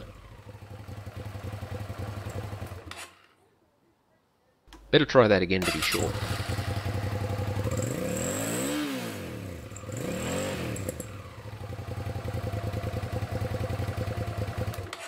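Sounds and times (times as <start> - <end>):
motorcycle engine revving and idling: 0.0 - 3.0, 5.6 - 15.0.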